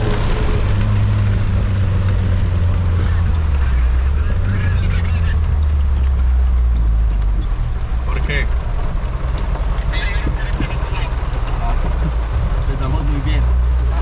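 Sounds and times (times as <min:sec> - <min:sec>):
car engine droning while driving: 0:00.0 - 0:14.0.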